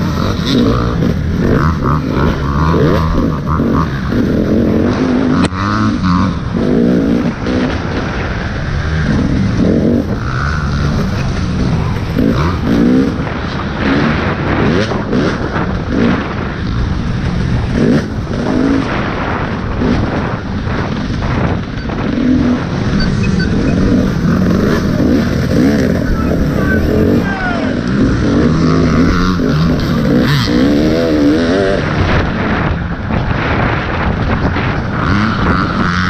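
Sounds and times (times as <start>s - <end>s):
motorcycle engine revving: 0.0s - 36.0s
wind rumble on microphone: 0.0s - 36.0s.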